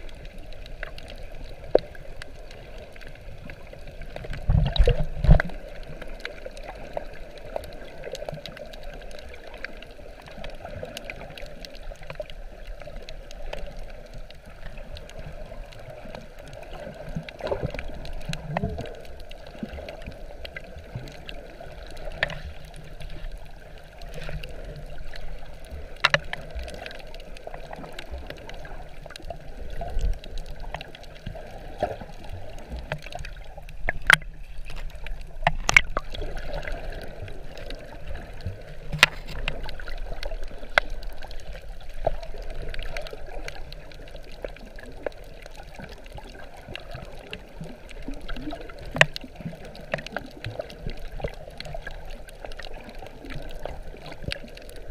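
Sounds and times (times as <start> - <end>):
underwater wash of moving water: 0.0 - 54.9.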